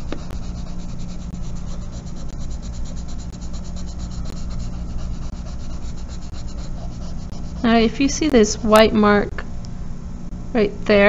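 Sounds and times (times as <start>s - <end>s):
pencil shading on paper: 0.0s - 9.0s.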